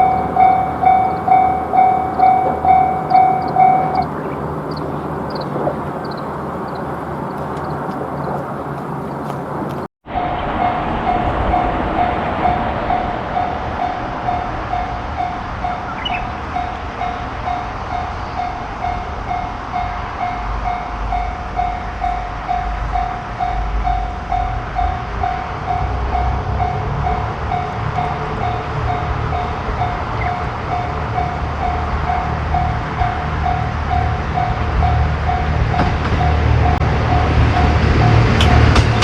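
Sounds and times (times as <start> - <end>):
railroad crossing bell clanging: 0.0 - 39.0
train rumbling over crossing: 0.0 - 39.0.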